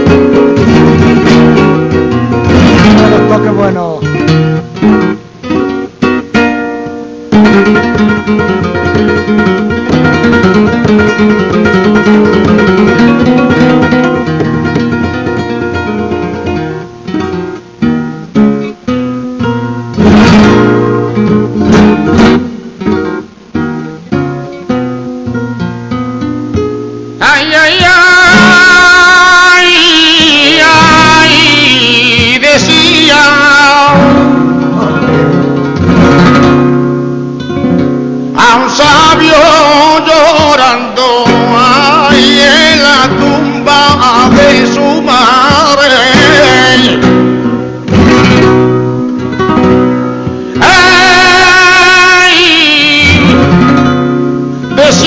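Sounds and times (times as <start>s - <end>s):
flamenco acoustic guitar: 0.0s - 55.0s
person singing flamenco: 0.0s - 55.0s.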